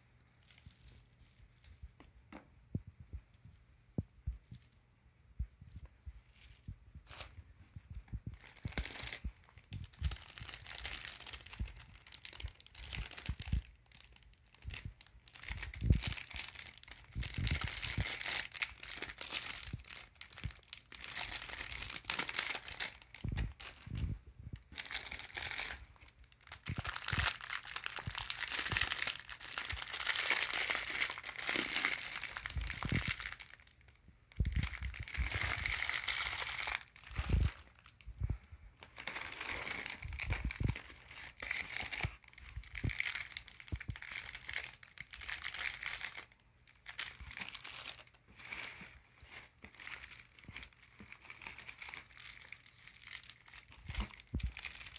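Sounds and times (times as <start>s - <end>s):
plastic wrapping crinkling: 5.6s - 54.9s.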